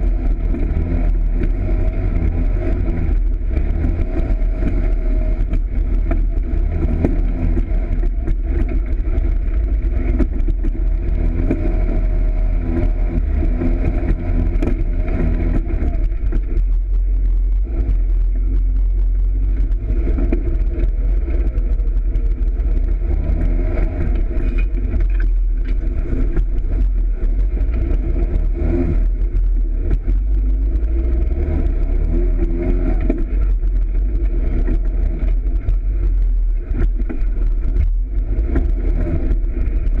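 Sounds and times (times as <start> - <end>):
heavy low rumble: 0.0 - 40.0
off-road vehicle engine revving: 0.0 - 40.0.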